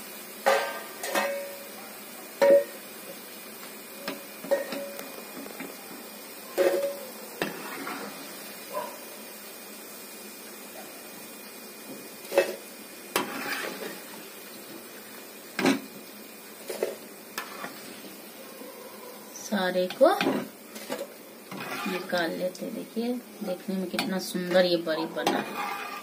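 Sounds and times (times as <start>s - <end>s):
oil frying hiss: 0.0s - 26.0s.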